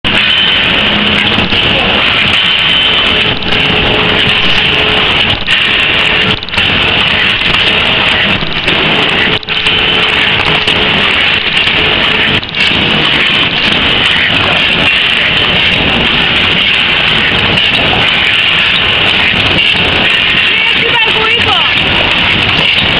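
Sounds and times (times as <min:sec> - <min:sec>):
paper cup machine running: 0:00.0 - 0:22.9.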